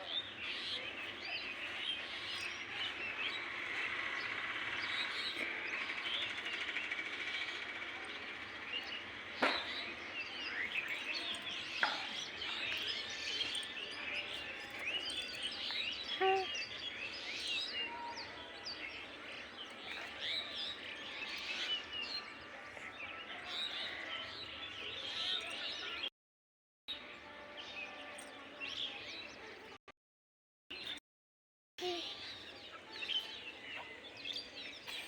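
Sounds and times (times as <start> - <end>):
chorus of small birds chirping: 0.0 - 26.1, 27.6 - 29.8, 31.8 - 35.0.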